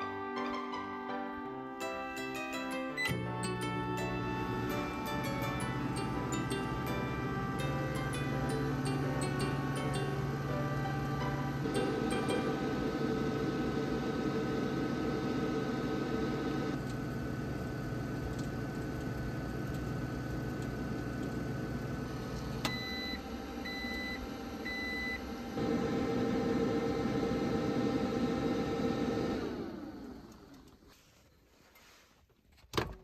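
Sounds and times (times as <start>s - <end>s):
microwave oven humming: 1.6s - 30.9s
microwave beeping: 1.8s - 30.5s
microwave clicking off: 3.0s - 30.7s
fan-like hum: 3.0s - 32.4s.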